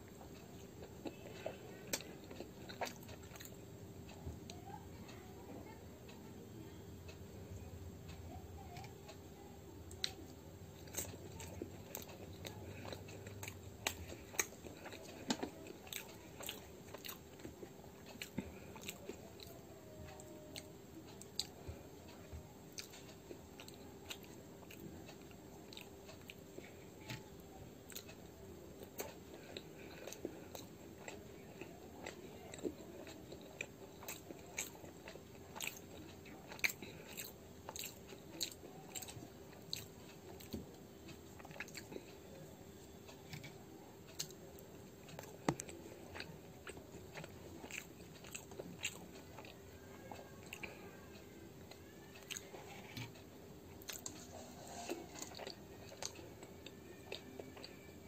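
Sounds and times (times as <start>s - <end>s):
person chewing food: 0.0s - 4.2s, 9.9s - 58.0s
faint hum: 0.0s - 58.0s.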